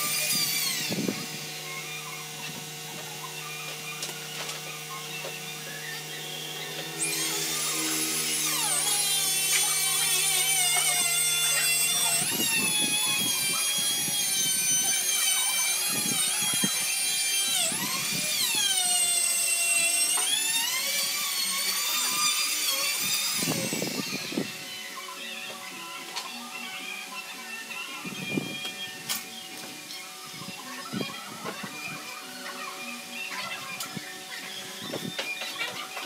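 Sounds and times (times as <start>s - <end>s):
power tool motor whining: 0.0s - 36.0s.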